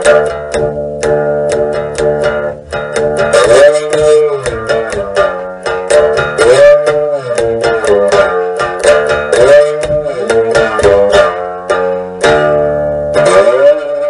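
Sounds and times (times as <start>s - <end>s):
plucked guitar-like music: 0.0s - 14.0s.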